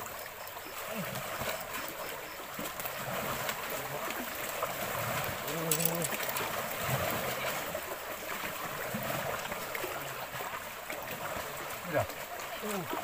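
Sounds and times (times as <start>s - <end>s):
water lapping against rocks: 0.0s - 13.0s.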